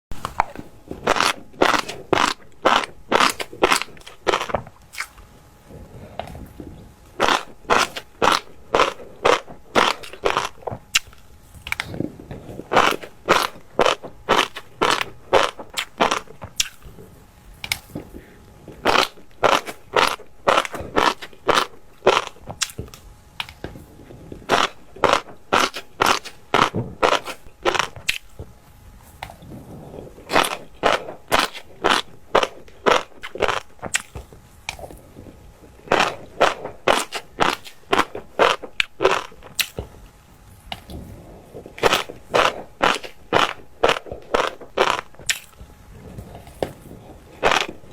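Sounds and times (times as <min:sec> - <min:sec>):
person chewing crisply: 0:00.1 - 0:47.9.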